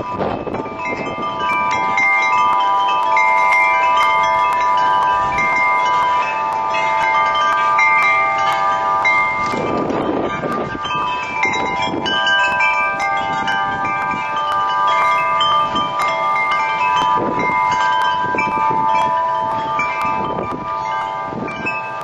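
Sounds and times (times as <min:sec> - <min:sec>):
wind buffeting microphone: 0:00.0 - 0:22.0
wind chimes ringing: 0:00.0 - 0:22.0.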